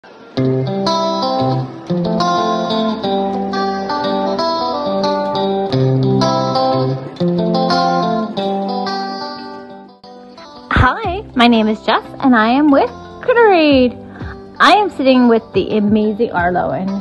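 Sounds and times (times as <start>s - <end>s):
plucked guitar melody: 0.2s - 17.0s.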